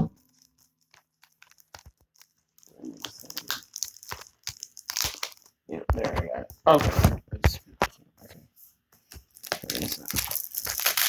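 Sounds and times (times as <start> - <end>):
plastic wrapping crinkling: 0.0 - 7.1, 9.0 - 11.0.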